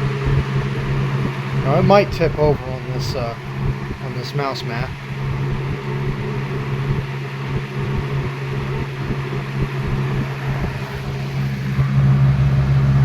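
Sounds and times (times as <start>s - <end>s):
box fan motor hum: 0.0s - 13.0s.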